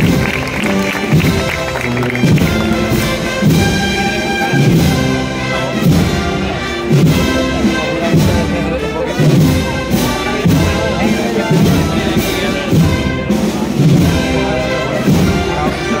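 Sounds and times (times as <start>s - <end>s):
wind band playing a march: 0.0s - 16.0s.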